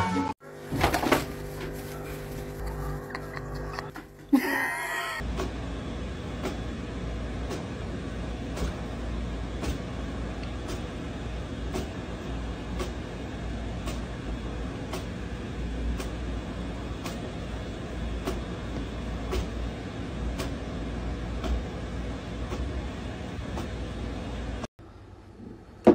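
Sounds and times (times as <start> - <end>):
printer mechanical hum: 0.4 - 25.9.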